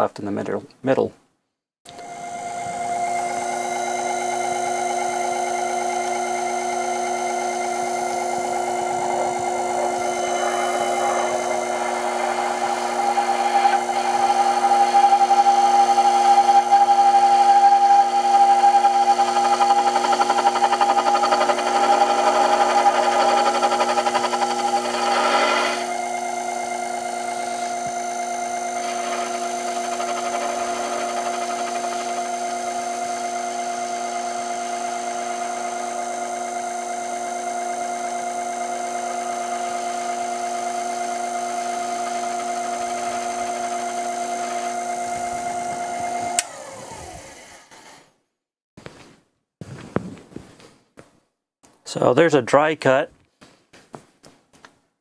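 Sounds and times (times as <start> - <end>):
lathe tool cutting metal: 1.9 - 47.6
lathe motor whine: 1.9 - 48.0.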